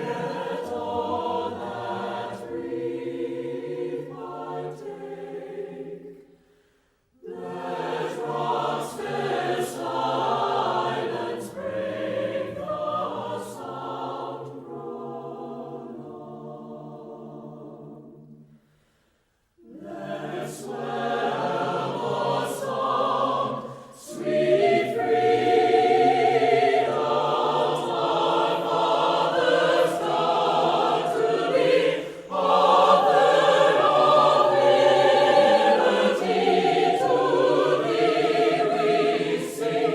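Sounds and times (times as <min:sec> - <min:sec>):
choir singing: 0:00.0 - 0:18.7, 0:19.5 - 0:39.9.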